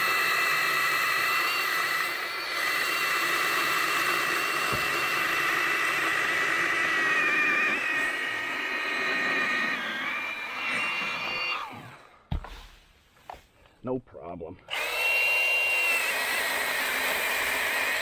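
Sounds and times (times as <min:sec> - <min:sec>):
mini chainsaw whining: 0:00.0 - 0:12.2, 0:14.7 - 0:18.0.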